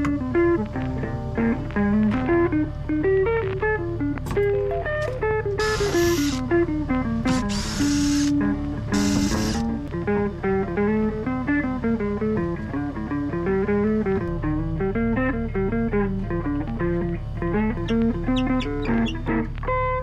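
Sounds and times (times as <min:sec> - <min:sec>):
plucked guitar tune: 0:00.0 - 0:20.0.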